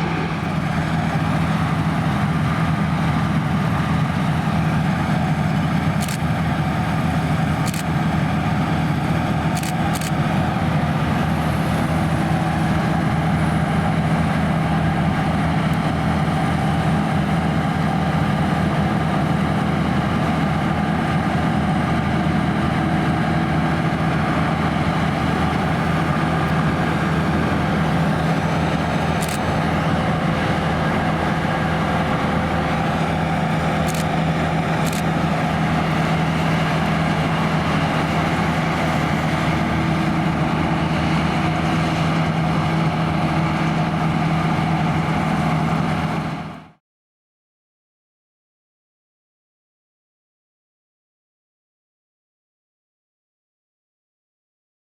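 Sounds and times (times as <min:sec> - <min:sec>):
combine harvester running: 0:00.0 - 0:46.8.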